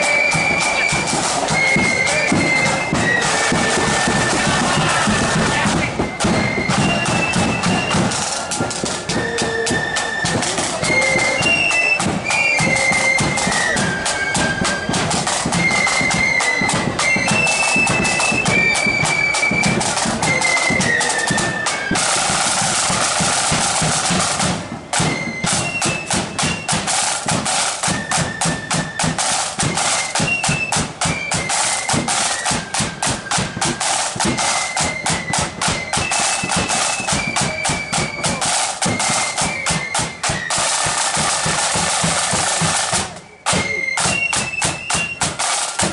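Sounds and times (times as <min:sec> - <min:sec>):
flutes playing melody: 0:00.0 - 0:45.9
rapid snare drumming: 0:00.0 - 0:45.9.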